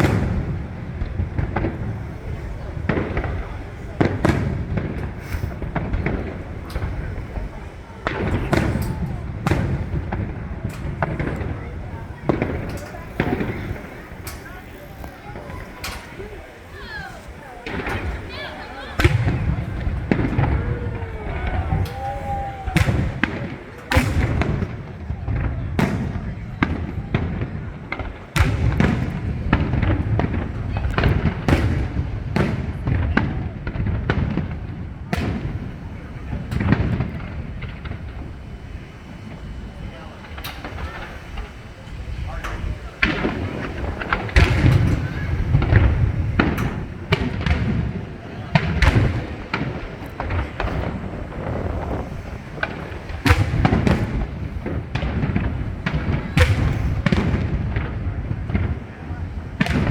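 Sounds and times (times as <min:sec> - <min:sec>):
fireworks bangs and booms: 0:00.0 - 0:59.9
low rumble of echoing blasts: 0:00.0 - 0:59.9.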